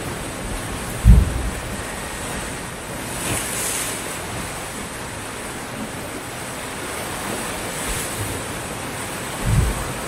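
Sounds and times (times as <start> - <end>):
waves breaking on shore: 0.0 - 10.0.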